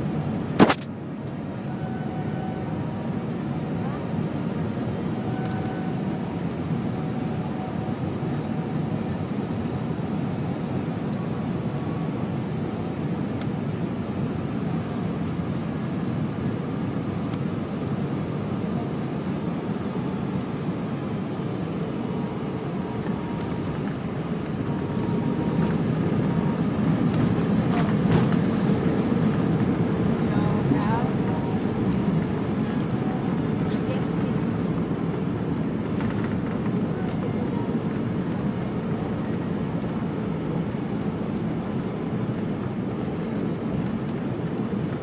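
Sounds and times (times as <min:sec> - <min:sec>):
aircraft cabin engine rumble: 0:00.0 - 0:45.0.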